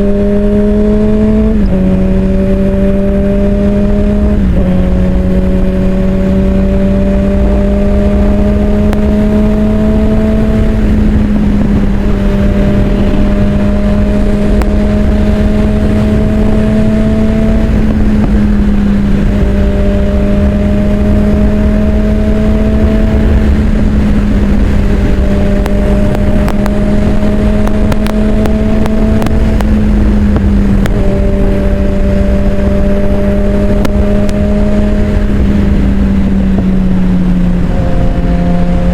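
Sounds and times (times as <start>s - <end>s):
low wind rumble: 0.0s - 38.9s
motorcycle engine at high revs: 0.0s - 38.9s.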